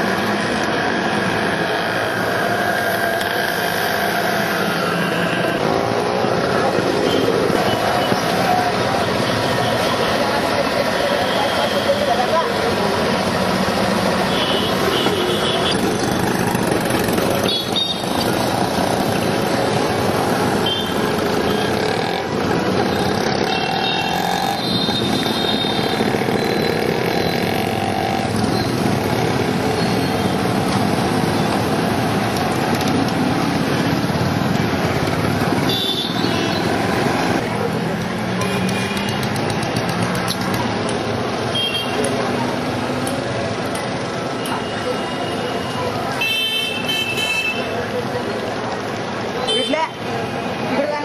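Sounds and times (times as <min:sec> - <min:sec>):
motorcycles running: 0:00.0 - 0:46.2
road noise: 0:00.0 - 0:51.0.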